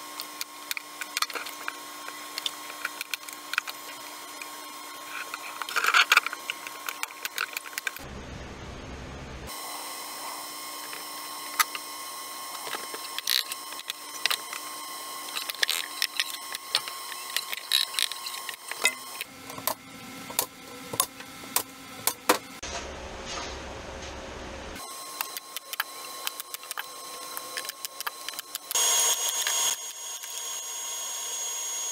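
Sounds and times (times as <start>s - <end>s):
steady background hum: 0.0s - 30.6s.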